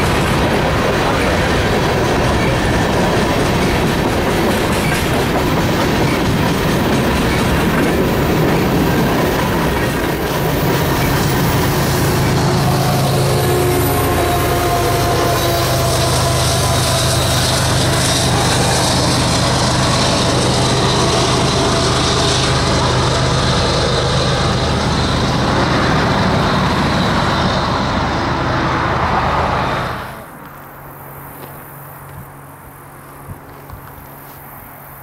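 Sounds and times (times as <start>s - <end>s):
diesel locomotive engine passing: 0.0s - 35.0s
train cars rolling past: 0.0s - 35.0s.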